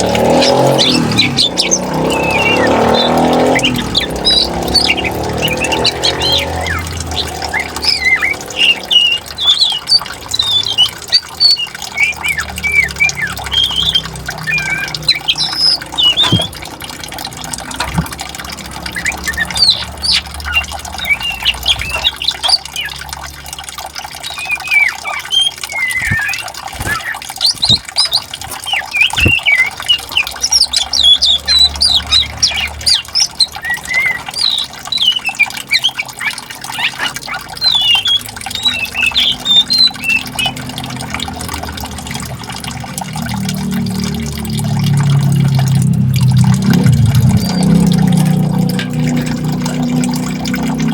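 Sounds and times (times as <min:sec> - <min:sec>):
flowing water rushing: 0:00.0 - 0:50.9
songbirds chirping: 0:00.0 - 0:50.9.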